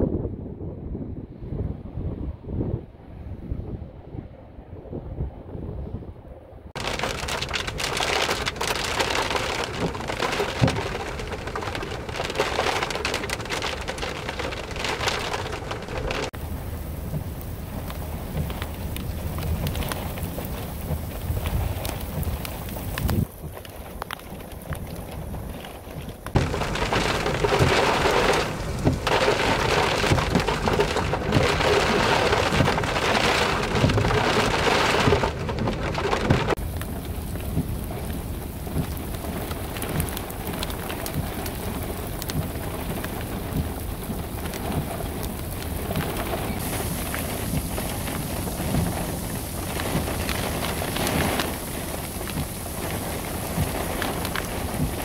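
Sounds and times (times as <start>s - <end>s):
strong wind: 0.0s - 55.0s
heavy rain pouring: 6.8s - 55.0s.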